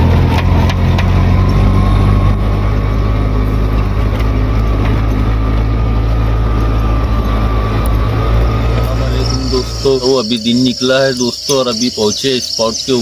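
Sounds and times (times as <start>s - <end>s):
engine running with whine: 0.0s - 13.0s.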